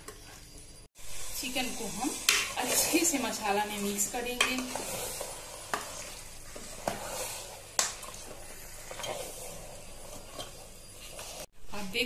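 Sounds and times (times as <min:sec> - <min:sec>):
soft sizzle of frying: 0:00.0 - 0:12.0.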